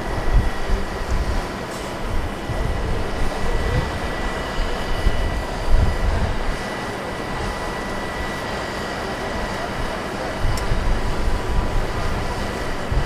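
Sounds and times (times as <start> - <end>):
wind buffeting microphone: 0.0 - 8.4, 9.6 - 13.0
crane engine running: 0.0 - 13.0.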